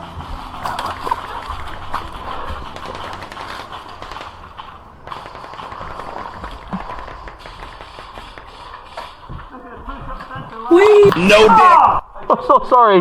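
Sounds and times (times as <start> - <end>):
airsoft guns firing: 0.0 - 12.8.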